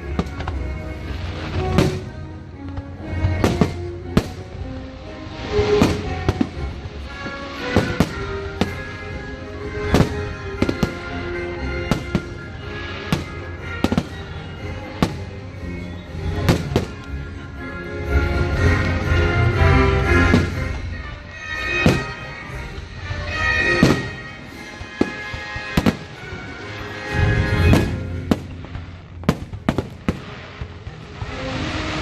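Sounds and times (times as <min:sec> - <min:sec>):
fireworks exploding: 0:00.0 - 0:32.0
music playing: 0:00.0 - 0:32.0.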